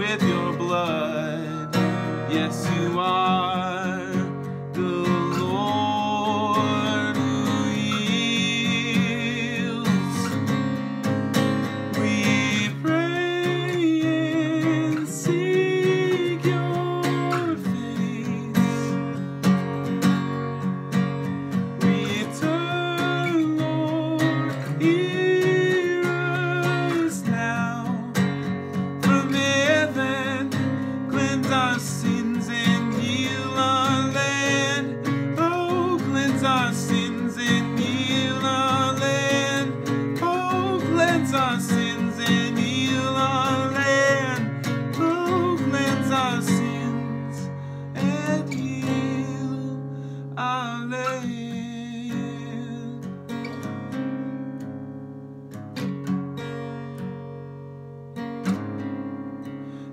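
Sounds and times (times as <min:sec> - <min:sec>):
man singing: 0:00.0 - 0:19.3, 0:20.6 - 0:53.9
acoustic guitar strumming: 0:00.0 - 0:59.9.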